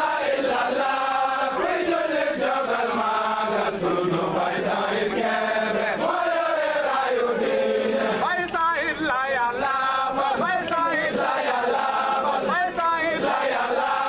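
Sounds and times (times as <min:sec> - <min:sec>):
group chanting in unison: 0:00.0 - 0:14.0.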